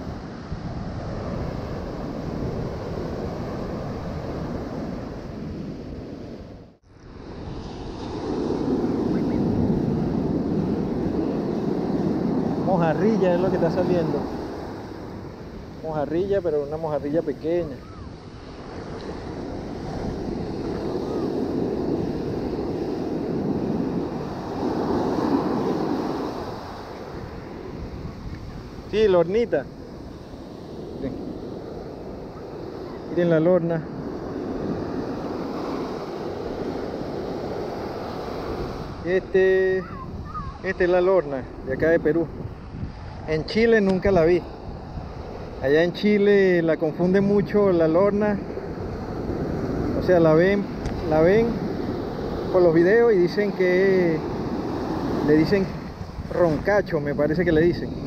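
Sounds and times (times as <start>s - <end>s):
wind buffeting microphone: 0.0s - 58.0s
surf breaking on beach: 7.0s - 58.0s.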